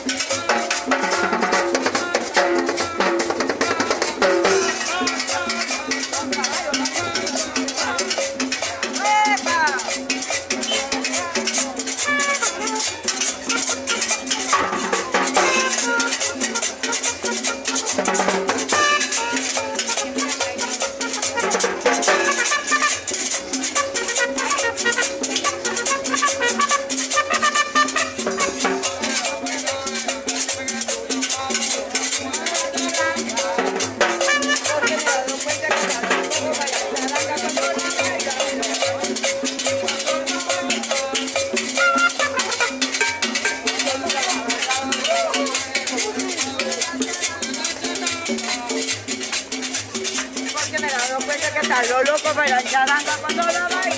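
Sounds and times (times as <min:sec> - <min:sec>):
drums: 0:00.0 - 0:53.9
latin dance band playing: 0:00.0 - 0:53.9
scraped metal guiro: 0:00.0 - 0:53.9.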